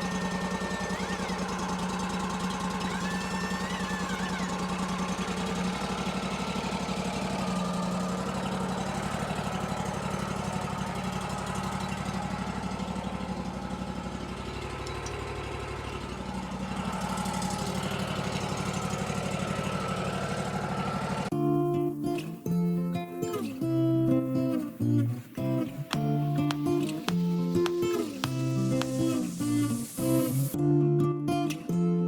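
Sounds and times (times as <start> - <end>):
sawmill engine pulsing hum: 0.0 - 21.3, 25.8 - 30.6.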